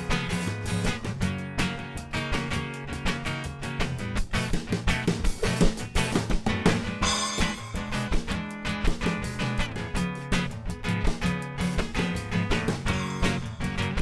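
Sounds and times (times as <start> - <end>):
percussion beat: 0.0 - 14.0
strummed guitar: 0.0 - 14.0.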